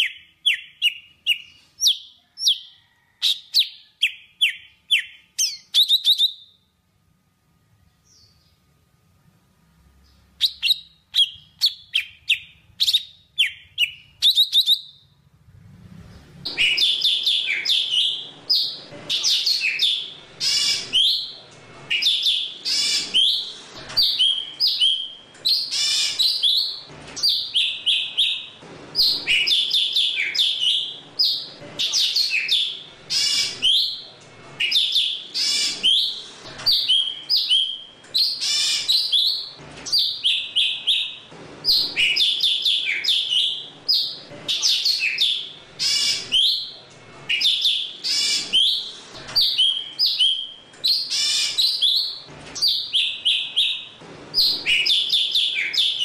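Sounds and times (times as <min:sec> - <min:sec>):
bird chirping and warbling: 0:00.0 - 0:06.6, 0:10.0 - 0:15.2, 0:16.0 - 0:56.0.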